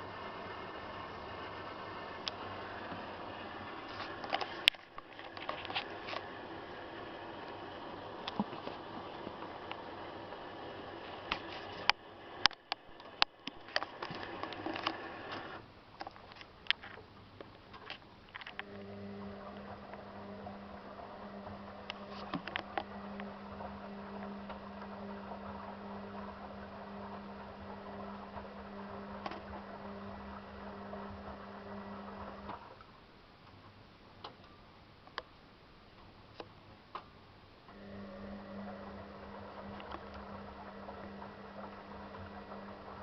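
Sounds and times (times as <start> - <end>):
washing machine running: 0.0 - 15.6, 18.5 - 32.8, 37.7 - 43.0
steady low hum: 0.0 - 34.2, 37.2 - 43.0.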